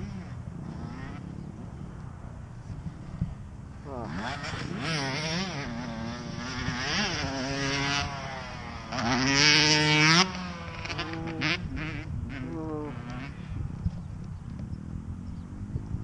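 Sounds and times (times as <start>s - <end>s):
dirt bike engine revving: 0.0s - 1.9s, 2.6s - 14.0s.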